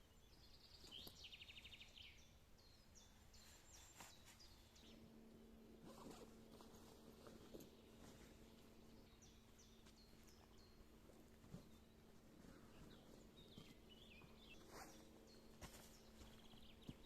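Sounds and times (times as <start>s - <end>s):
faint songbird calls: 0.0s - 17.0s
low hum: 0.0s - 17.0s.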